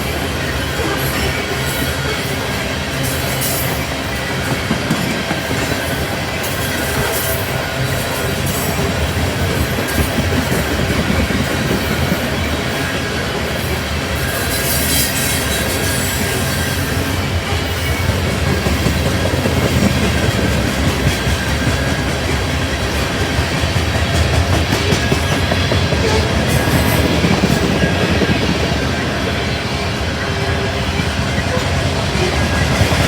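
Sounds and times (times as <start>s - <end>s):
freight train cars rolling: 0.0s - 33.0s.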